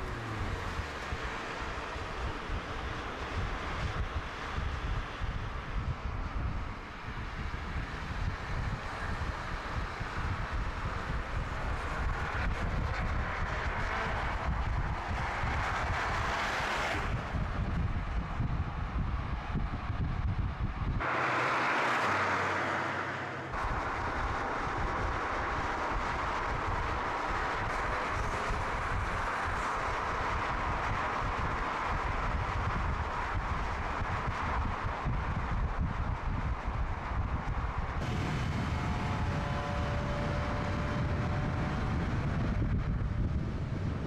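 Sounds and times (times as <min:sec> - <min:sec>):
wind on microphone: 0:00.0 - 0:21.1, 0:23.5 - 0:44.0
car engine driving hard: 0:00.0 - 0:44.0.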